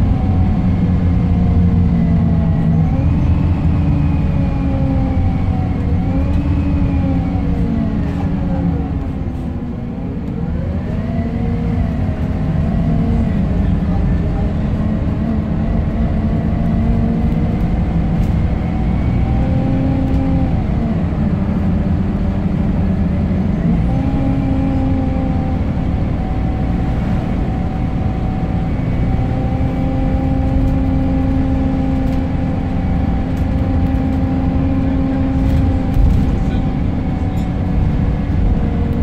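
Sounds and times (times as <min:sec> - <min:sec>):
bus driveline whine: 0:00.0 - 0:39.0
diesel engine rumble: 0:00.0 - 0:39.0.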